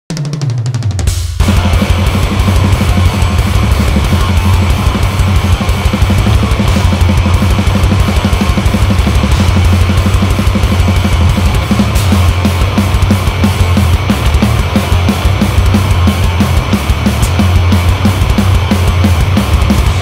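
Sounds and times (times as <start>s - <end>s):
fast drumming: 0.1s - 20.0s
distorted electric guitar: 1.4s - 20.0s.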